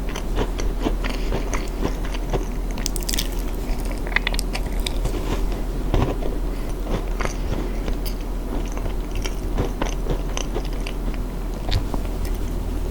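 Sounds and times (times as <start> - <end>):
chewing crunchy food: 0.0 - 12.5.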